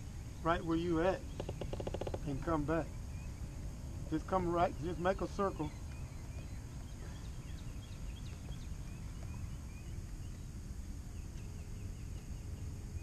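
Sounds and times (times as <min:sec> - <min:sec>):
birds chirping: 0:00.0 - 0:13.0
steady low rumble: 0:02.2 - 0:13.0.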